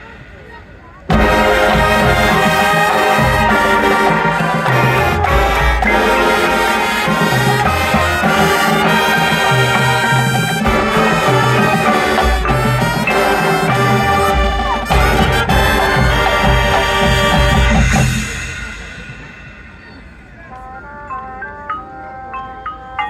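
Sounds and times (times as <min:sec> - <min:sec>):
marching band brass chords: 0:00.0 - 0:22.3.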